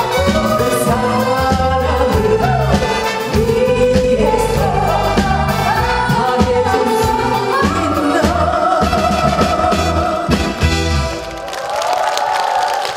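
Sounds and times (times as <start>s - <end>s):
lead vocal singing: 0.0s - 10.8s
live band playing: 0.0s - 11.9s
backing singers: 0.0s - 12.9s.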